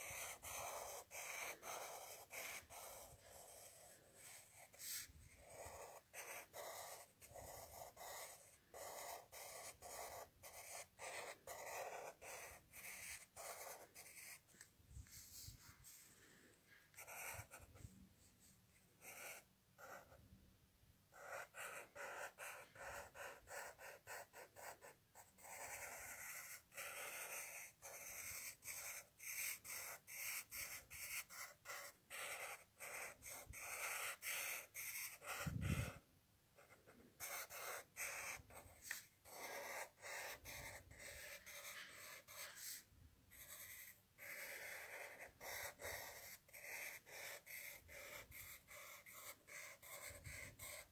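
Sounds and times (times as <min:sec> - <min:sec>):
pen scratching on paper: 0:00.0 - 0:16.0, 0:16.9 - 0:17.9, 0:19.0 - 0:20.2, 0:21.1 - 0:36.0, 0:36.6 - 0:50.9.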